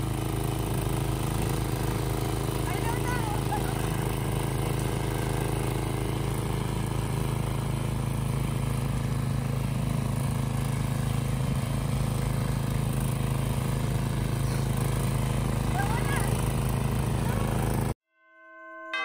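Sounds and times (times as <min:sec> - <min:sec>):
snow blower running: 0:00.0 - 0:18.0.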